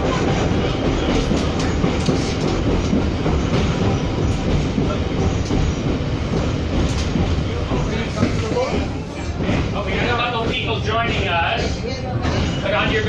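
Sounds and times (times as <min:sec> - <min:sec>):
streetcar wheels rumbling on rail: 0:00.0 - 0:13.0.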